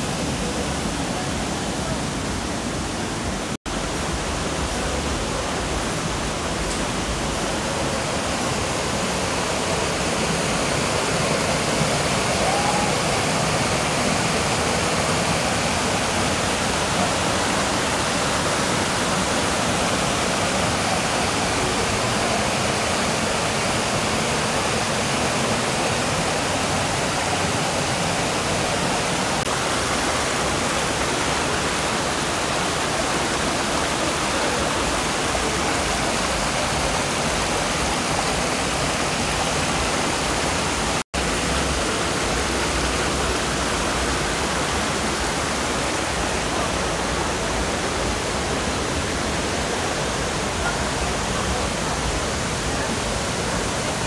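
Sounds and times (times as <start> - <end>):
water rushing down cascades: 0.0 - 54.0.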